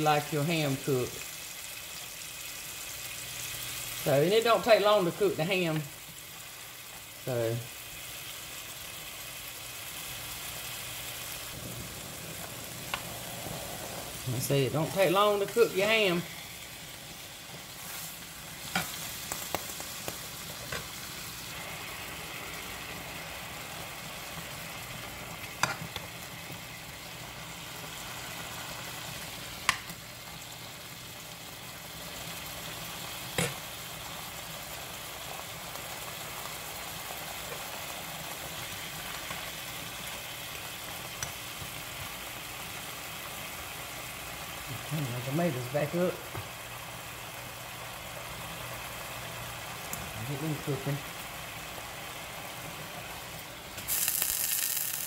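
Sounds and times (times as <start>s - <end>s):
ham sizzling in a hot pan: 0.0s - 55.0s.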